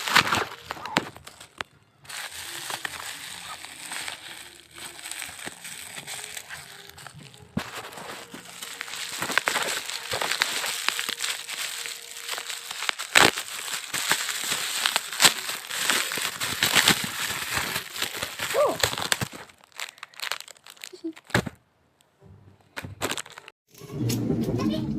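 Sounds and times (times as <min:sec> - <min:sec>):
rapid small clicks and crackling: 0:00.0 - 0:21.4.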